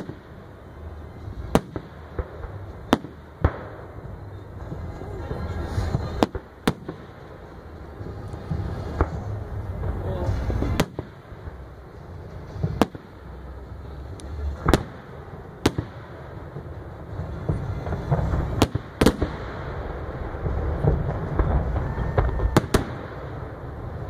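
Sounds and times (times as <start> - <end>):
fireworks bangs: 0.0 - 24.0
low rumble: 0.3 - 24.0.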